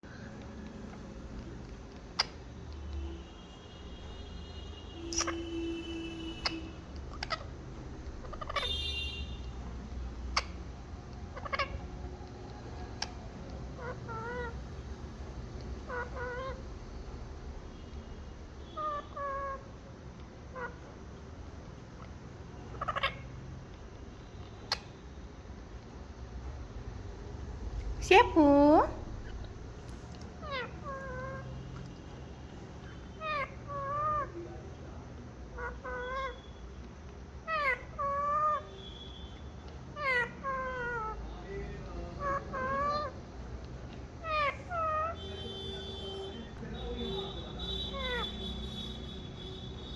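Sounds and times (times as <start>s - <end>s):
parrot calling: 0.6s - 25.3s, 27.6s - 34.7s, 35.5s - 49.9s.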